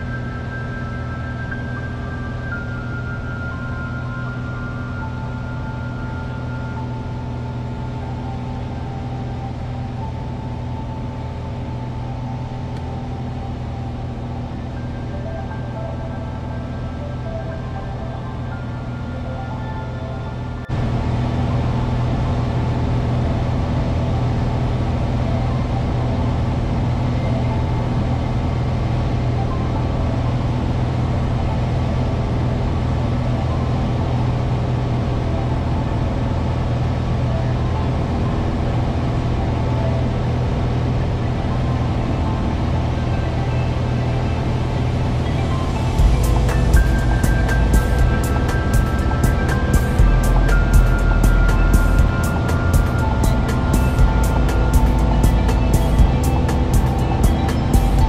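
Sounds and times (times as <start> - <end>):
light airplane engine drone: 0.0 - 58.0.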